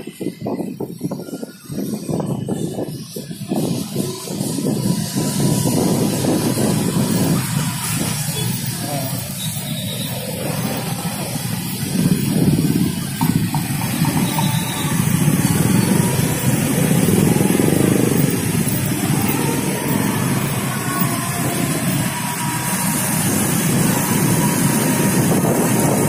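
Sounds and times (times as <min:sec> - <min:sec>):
motorcycle engines rumbling: 0:00.0 - 0:26.0.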